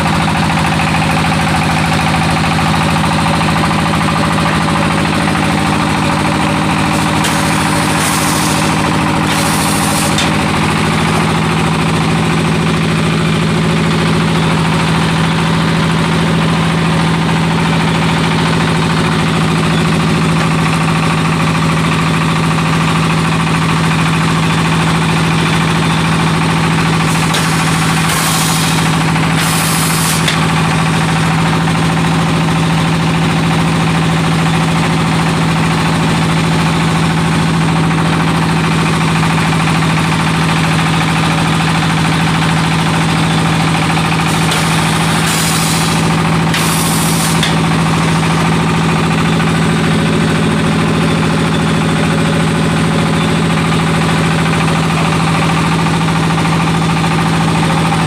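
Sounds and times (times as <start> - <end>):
machine mechanical hum and rattle: 0.0 - 58.0.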